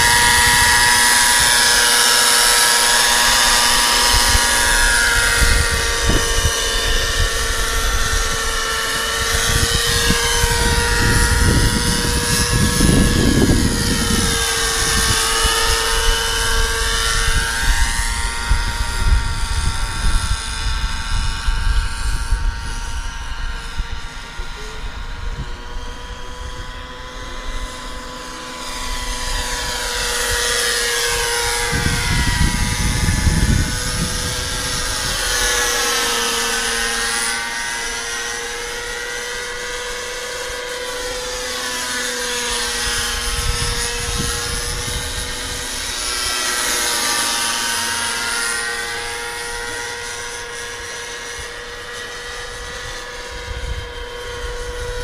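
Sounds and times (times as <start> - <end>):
model helicopter rotor whine: 0.0 - 55.0
wind buffeting microphone: 0.0 - 55.0.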